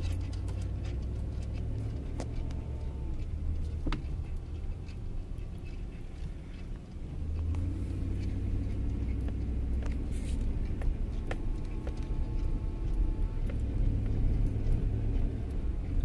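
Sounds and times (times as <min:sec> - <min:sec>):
light clicks and rattles: 0:00.0 - 0:16.0
vehicle engine and road rumble: 0:00.0 - 0:16.0.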